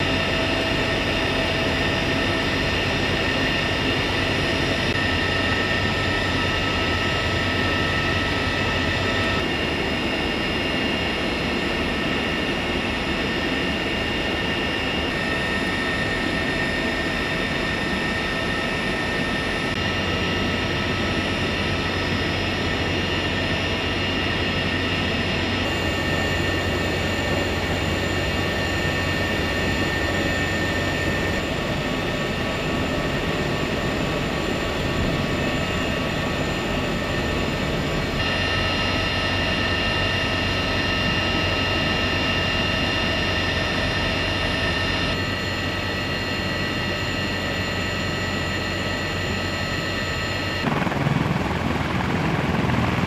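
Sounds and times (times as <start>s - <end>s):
helicopter engines and rotors: 0.0s - 53.0s.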